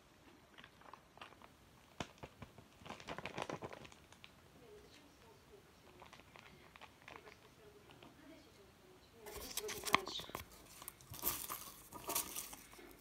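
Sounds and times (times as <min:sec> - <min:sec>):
paper and plastic packet crinkling: 0:00.3 - 0:08.1, 0:09.2 - 0:13.0.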